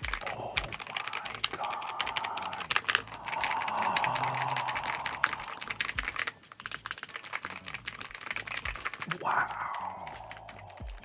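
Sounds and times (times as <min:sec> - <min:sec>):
fast keyboard typing: 0:00.0 - 0:11.0.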